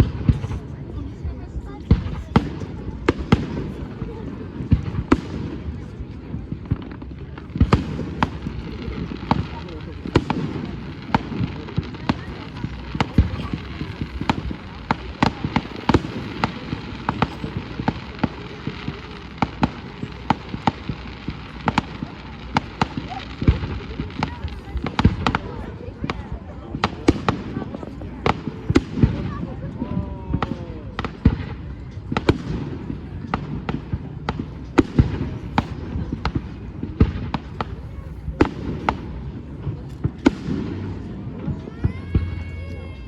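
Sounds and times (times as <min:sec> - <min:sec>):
fireworks bangs and pops: 0:00.0 - 0:42.8.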